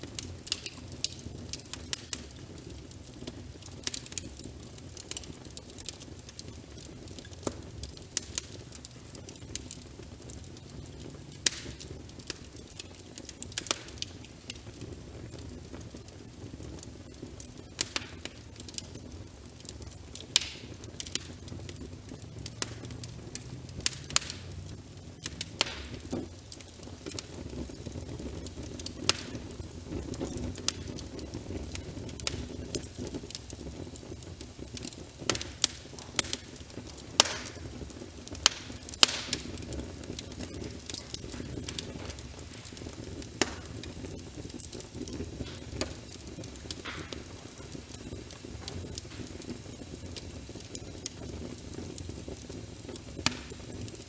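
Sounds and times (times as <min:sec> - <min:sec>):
rain: 0:00.0 - 0:54.0
wood fire crackling: 0:00.0 - 0:54.0.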